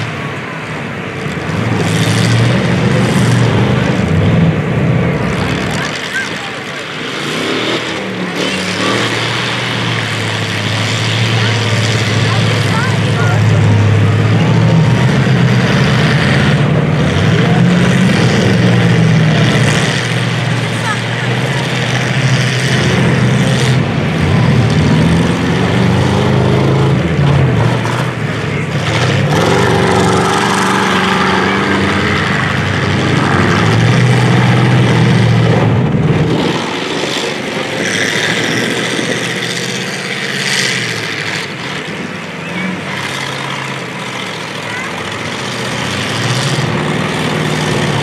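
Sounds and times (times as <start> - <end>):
car engines revving hard: 0.0 - 48.0.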